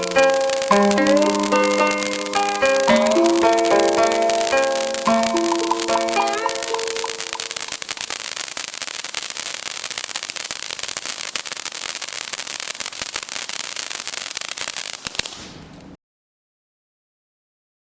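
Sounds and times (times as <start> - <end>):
firework hissing and crackling: 0.0 - 16.0
loud firework crack: 0.0 - 16.0.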